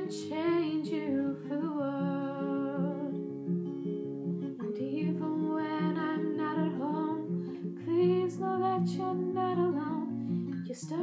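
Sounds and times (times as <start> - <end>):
woman singing: 0.0 - 3.5, 4.6 - 11.0
acoustic guitar chords: 0.0 - 11.0.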